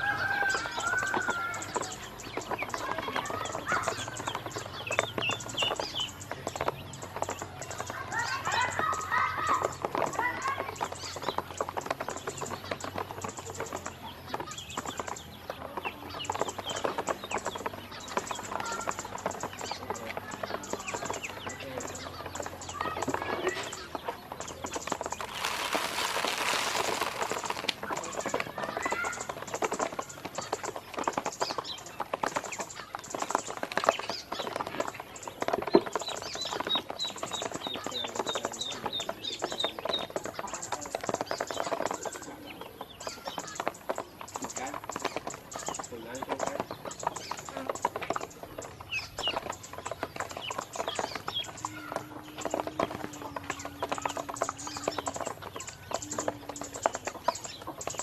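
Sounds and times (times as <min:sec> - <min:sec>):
ducklings pecking at feed: 0:00.0 - 0:58.0
ducklings peeping: 0:00.0 - 0:58.0.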